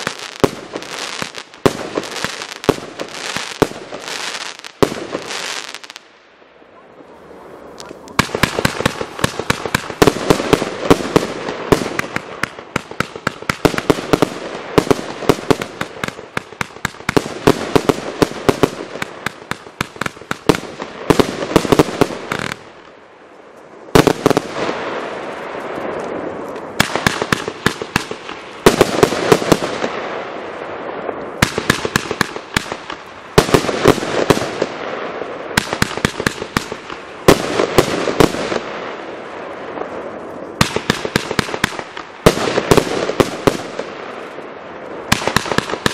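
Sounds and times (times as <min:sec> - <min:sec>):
fireworks launching and bursting: 0:00.0 - 0:06.2, 0:07.6 - 0:23.1, 0:23.8 - 0:45.9.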